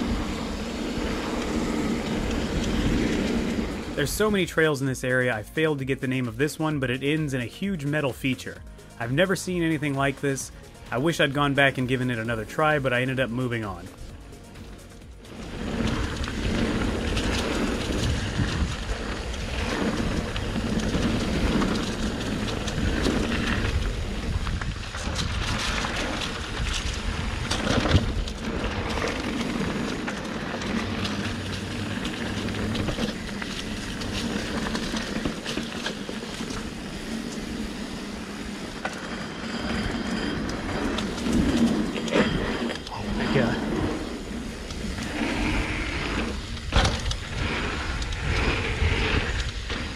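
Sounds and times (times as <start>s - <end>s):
bike rattling over bumps: 0.0s - 49.9s
tyres rolling over dirt: 0.0s - 49.9s.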